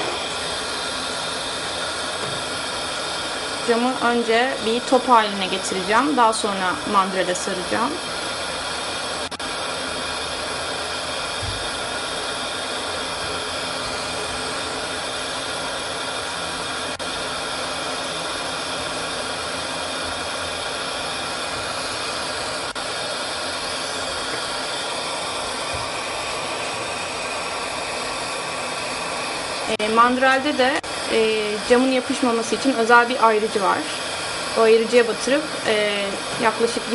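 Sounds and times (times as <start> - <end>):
glassworking torch hissing: 0.0 - 36.9.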